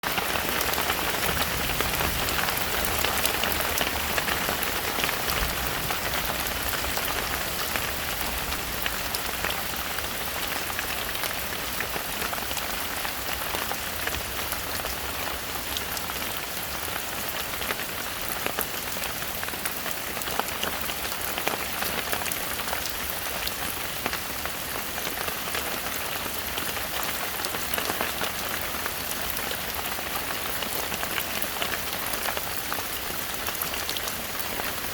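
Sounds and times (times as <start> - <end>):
heavy rain in forest: 0.0 - 34.9.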